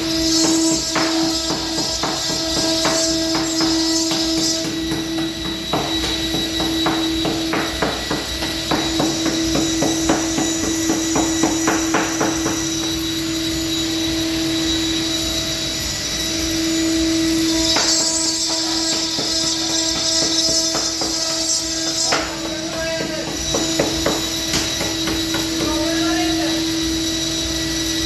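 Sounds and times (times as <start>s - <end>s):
router spindle whine: 0.0s - 28.0s.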